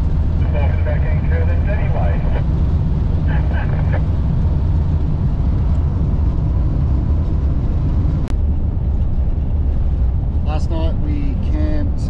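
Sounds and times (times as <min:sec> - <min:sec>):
engine and road noise rumble: 0:00.0 - 0:12.0.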